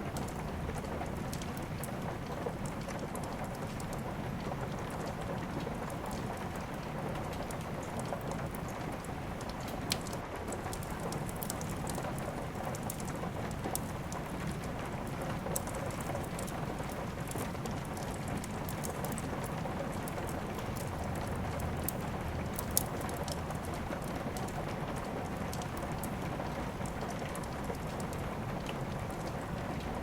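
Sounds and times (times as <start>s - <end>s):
steady rain: 0.0s - 30.0s
wood fire crackling: 0.1s - 30.0s.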